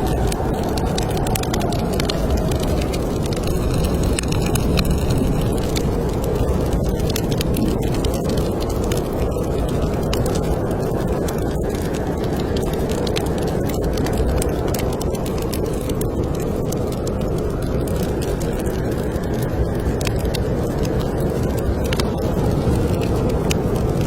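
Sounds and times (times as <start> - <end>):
snowstorm wind rumble: 0.0 - 24.0
wood fire crackling and popping: 0.0 - 24.0.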